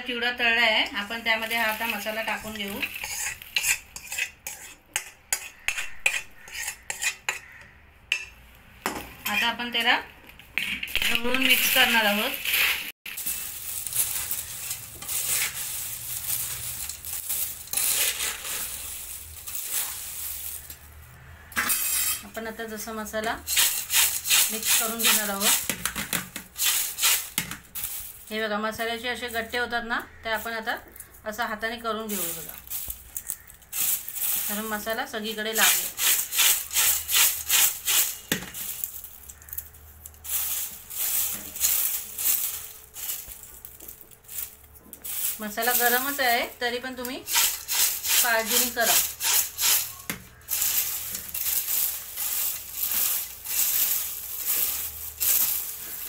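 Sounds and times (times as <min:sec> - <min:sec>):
fried flakes rustling and crunching: 0:00.3 - 0:07.6, 0:09.1 - 0:21.5, 0:22.4 - 0:56.0.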